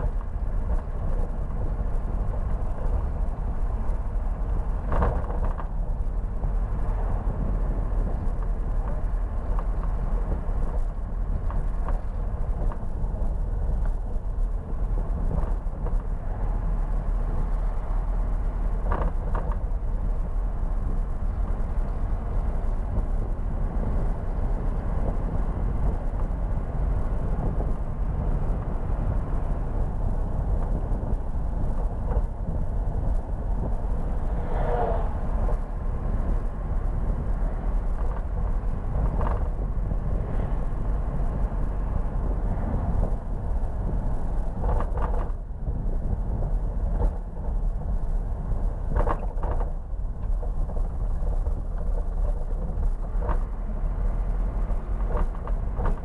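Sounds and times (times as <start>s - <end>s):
truck diesel engine rumble: 0.0s - 56.0s.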